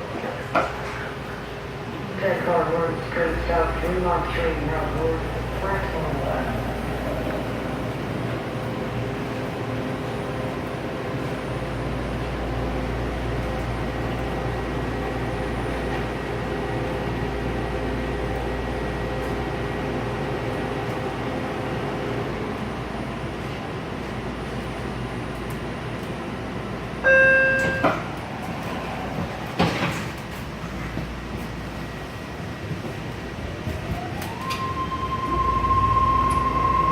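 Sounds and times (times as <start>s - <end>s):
train rumbling at speed: 0.0s - 36.9s.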